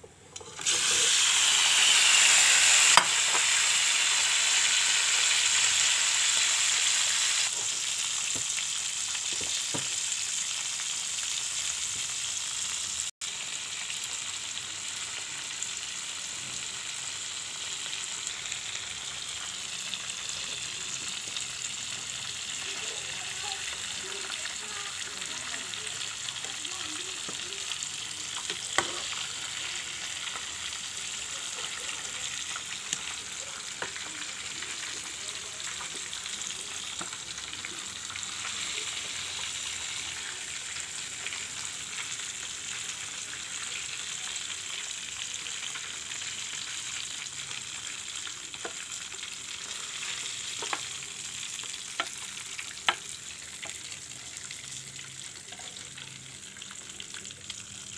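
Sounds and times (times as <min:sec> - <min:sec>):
chicken deep-frying in oil: 0:00.0 - 0:57.9.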